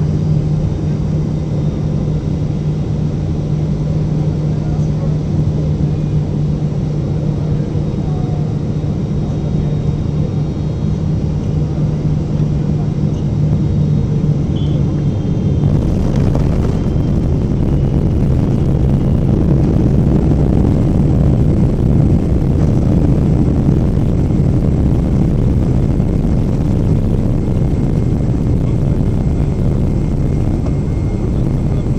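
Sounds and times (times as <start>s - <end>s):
airliner engines droning: 0.0s - 31.9s
low cabin rumble: 0.0s - 31.9s.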